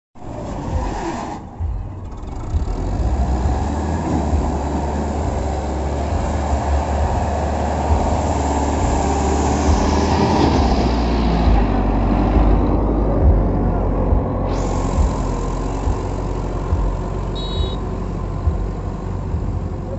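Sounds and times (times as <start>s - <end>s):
tractor diesel engine labouring: 0.2s - 19.9s.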